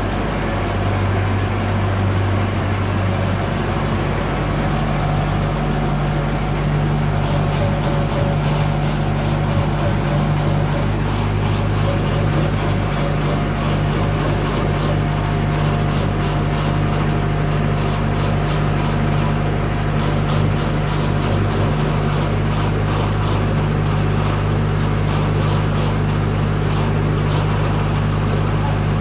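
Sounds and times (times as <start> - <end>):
tractor diesel engine running: 0.0 - 29.0
faint rapid rattle: 2.6 - 29.0.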